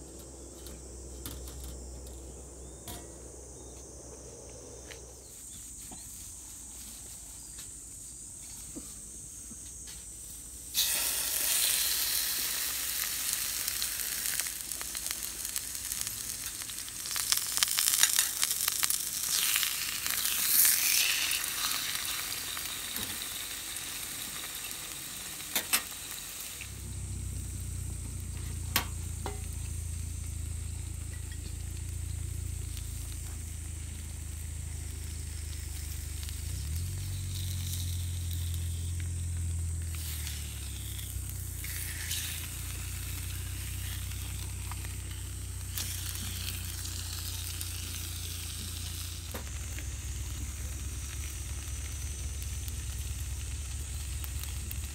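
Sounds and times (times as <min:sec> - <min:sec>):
low steady hum: 0:00.0 - 0:54.9
fish sizzling in a frying pan: 0:10.7 - 0:54.9.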